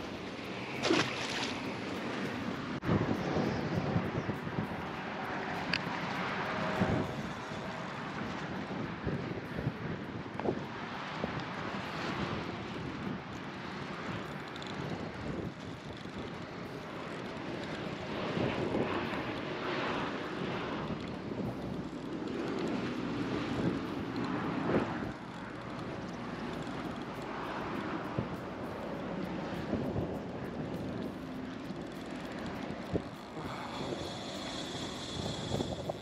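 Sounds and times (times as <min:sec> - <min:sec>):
wind gusting across microphone: 0:00.0 - 0:36.0.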